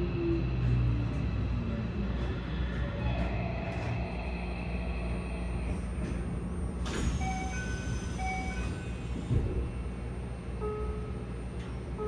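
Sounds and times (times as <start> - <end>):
train rumble from inside carriage: 0.0 - 12.0.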